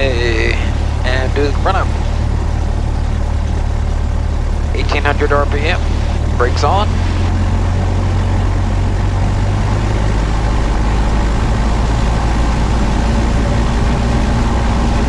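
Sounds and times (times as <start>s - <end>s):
airplane piston engine running: 0.0s - 15.0s.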